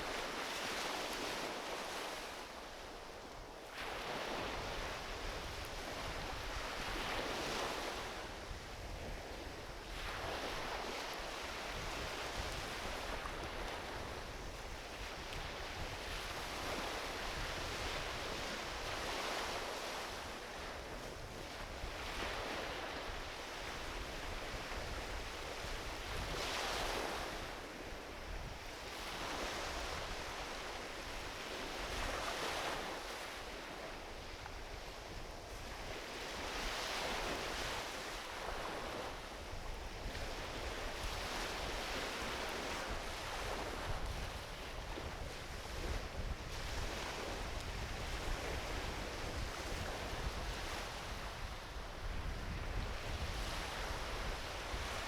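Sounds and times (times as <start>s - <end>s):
waves washing onto beach: 0.0s - 55.0s
wind rumble on microphone: 0.0s - 55.0s.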